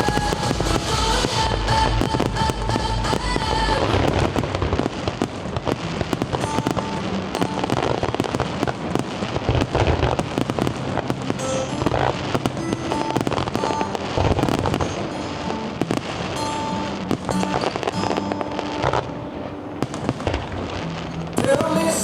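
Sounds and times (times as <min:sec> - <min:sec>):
fireworks bursting and crackling: 0:00.0 - 0:22.0
music soundtrack: 0:00.0 - 0:22.0.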